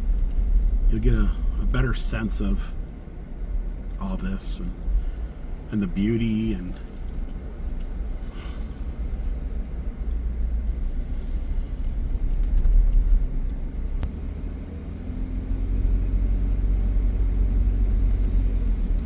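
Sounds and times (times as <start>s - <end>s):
faint engine hum: 0.0s - 19.0s
vehicle engine and road rumble: 0.0s - 19.0s.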